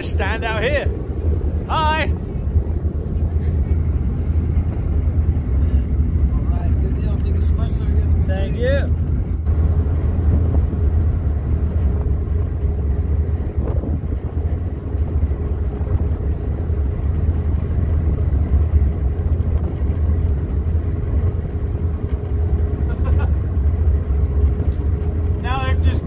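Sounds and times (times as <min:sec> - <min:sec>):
ferry engines rumbling: 0:00.0 - 0:26.0.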